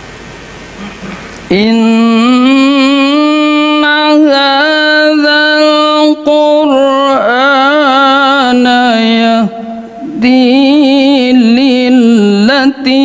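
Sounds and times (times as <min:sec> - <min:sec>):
man reciting melodically: 0:01.5 - 0:13.0.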